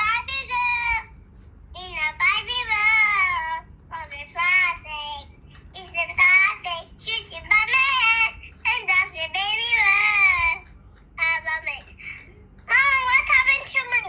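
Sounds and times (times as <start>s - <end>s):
young child singing: 0.0s - 1.1s, 1.8s - 10.6s, 11.2s - 11.9s, 12.7s - 14.0s.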